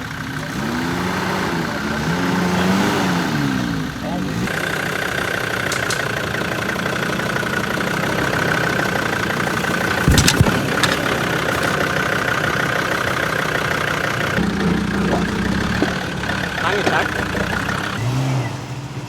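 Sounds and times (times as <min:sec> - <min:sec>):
engine running low: 0:00.0 - 0:19.0.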